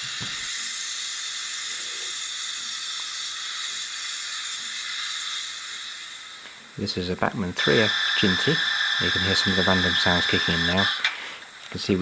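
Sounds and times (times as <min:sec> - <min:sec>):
steam hiss from small speaker: 0:00.0 - 0:12.0.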